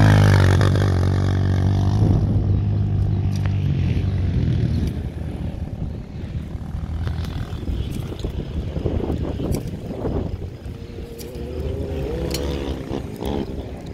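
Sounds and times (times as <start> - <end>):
dirt bike engine riding away: 0.0 - 13.9.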